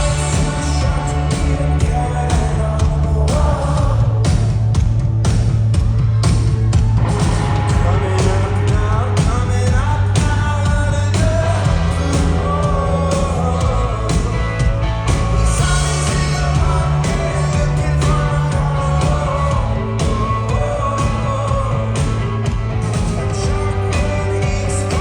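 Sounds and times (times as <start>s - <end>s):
lead singer singing: 0.0s - 4.6s, 7.6s - 25.0s
rock band playing live: 0.0s - 25.0s.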